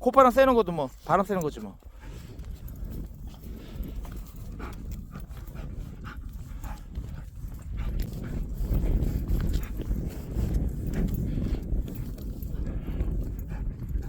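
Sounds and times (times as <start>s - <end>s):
wind rumbling on microphone: 0.0s - 14.0s
dog panting: 0.9s - 14.0s.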